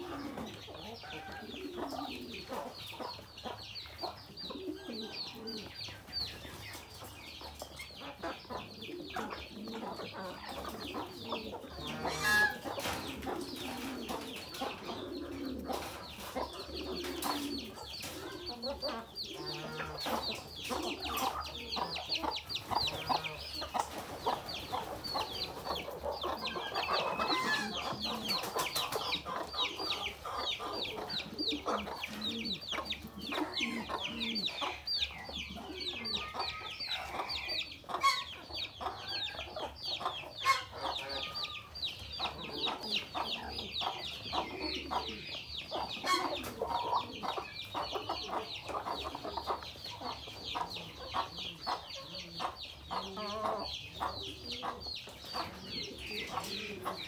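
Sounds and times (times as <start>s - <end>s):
chickens clucking: 0.0s - 57.0s
chicks peeping: 0.0s - 57.0s.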